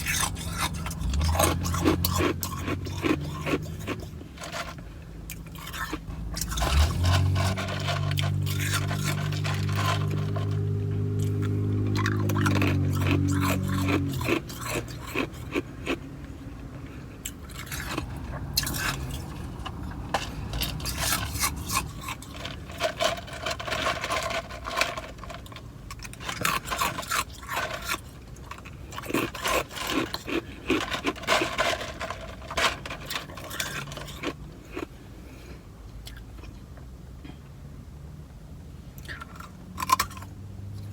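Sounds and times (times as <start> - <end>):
ice crunched and chewed: 0.0 - 35.0, 39.0 - 40.9.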